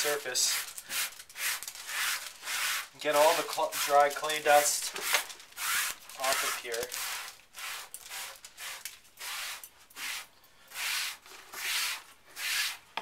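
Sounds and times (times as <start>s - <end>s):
sponge scrubbing tabletop: 0.4s - 4.8s, 5.6s - 13.0s.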